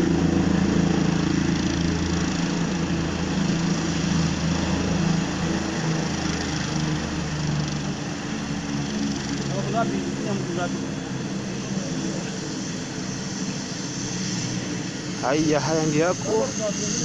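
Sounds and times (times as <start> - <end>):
helicopter drone: 0.0 - 17.0.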